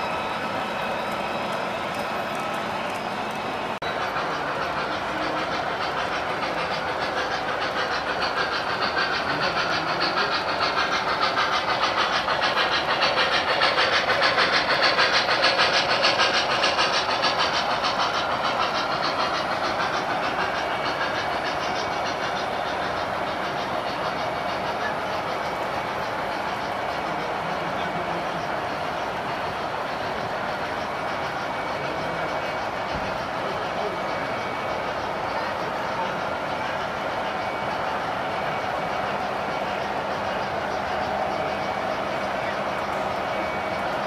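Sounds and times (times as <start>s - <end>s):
model train rumbling: 0.0s - 44.0s
wheels clicking on rails: 0.0s - 44.0s.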